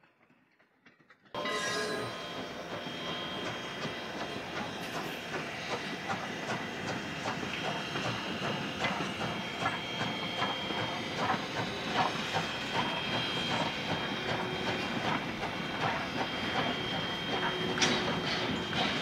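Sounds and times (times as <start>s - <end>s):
steam hissing: 1.4s - 19.0s
steam locomotive chuffing: 1.4s - 19.0s.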